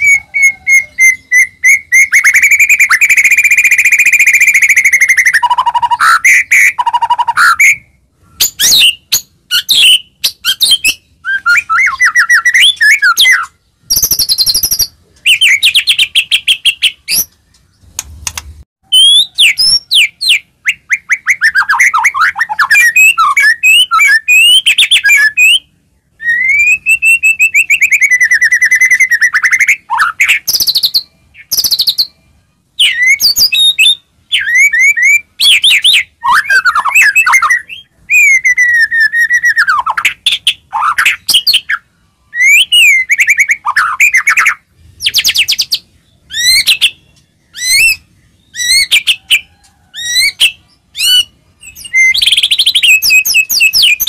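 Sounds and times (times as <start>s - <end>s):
songbird singing trills and whistles: 0.0s - 54.0s.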